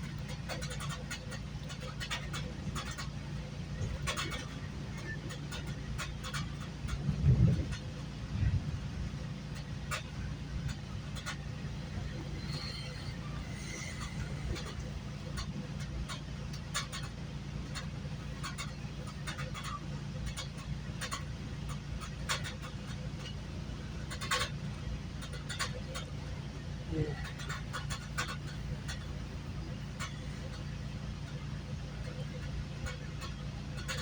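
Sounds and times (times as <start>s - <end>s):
sharp clicks and rattles: 0.0s - 34.0s
train coach rumbling in motion: 0.0s - 34.0s.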